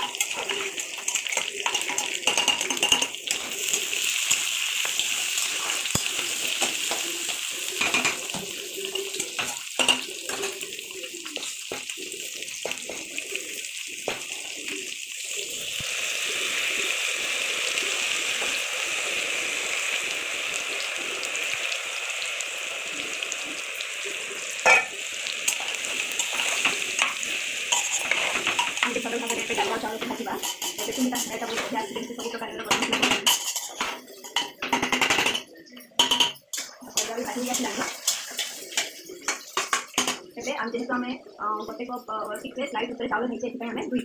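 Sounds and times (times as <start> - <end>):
rice frying in hot oil: 0.0 - 42.5
oil sizzling in a pan: 0.0 - 44.0.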